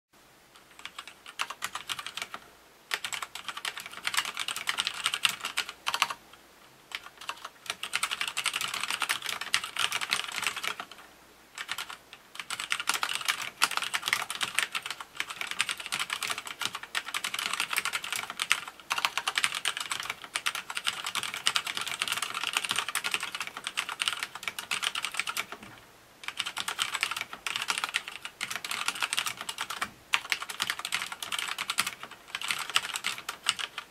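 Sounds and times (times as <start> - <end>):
typing on mechanical keyboard: 0.6 - 6.2, 6.9 - 11.0, 11.6 - 33.9.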